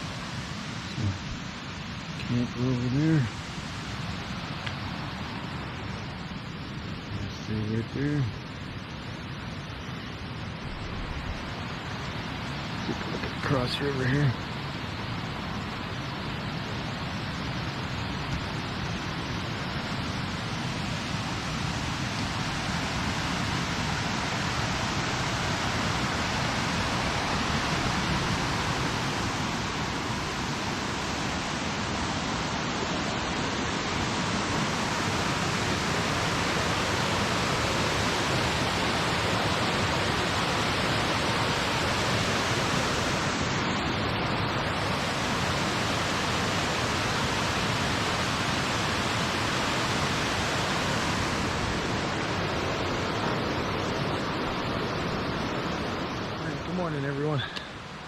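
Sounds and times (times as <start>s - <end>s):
river water rushing: 0.0s - 7.2s, 8.3s - 58.0s.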